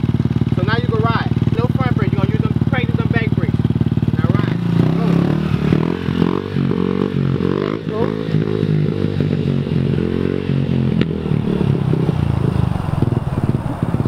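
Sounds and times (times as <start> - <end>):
small dirt bike engine running: 0.0 - 14.0.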